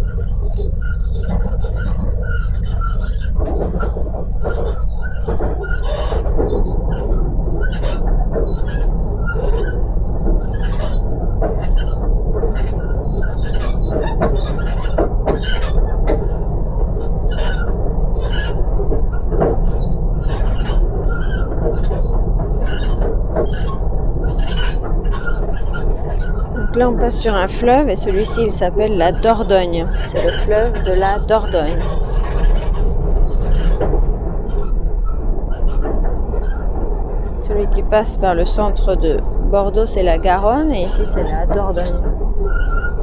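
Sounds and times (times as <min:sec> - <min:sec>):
train rumble inside carriage: 0:00.0 - 0:43.0
wheels and carriage clattering: 0:00.0 - 0:43.0.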